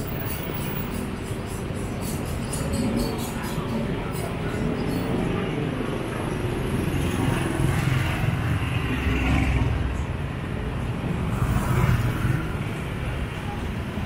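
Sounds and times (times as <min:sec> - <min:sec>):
street noise: 0:00.0 - 0:14.0
vehicles passing: 0:00.0 - 0:14.0.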